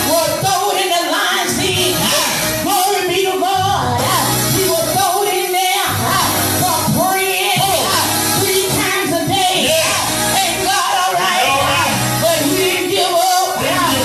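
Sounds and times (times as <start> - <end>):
worship singing with bass accompaniment: 0.0 - 14.0.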